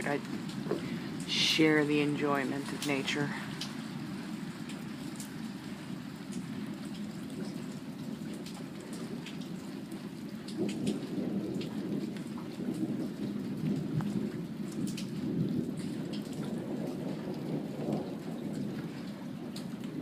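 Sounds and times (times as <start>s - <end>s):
light rain: 0.0s - 20.0s
raindrops striking close by: 0.0s - 20.0s
rolling rumble of thunder: 0.0s - 20.0s.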